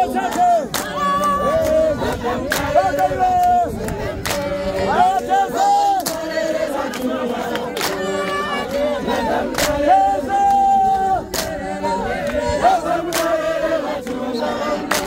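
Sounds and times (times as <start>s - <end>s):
congregation singing: 0.0s - 15.0s.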